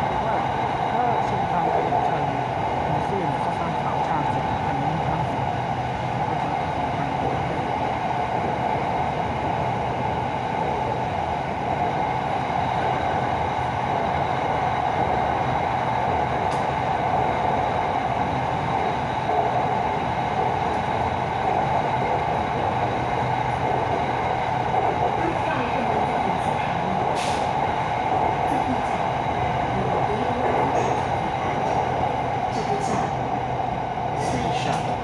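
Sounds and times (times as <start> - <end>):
train wheels and motors rumbling: 0.0 - 35.0.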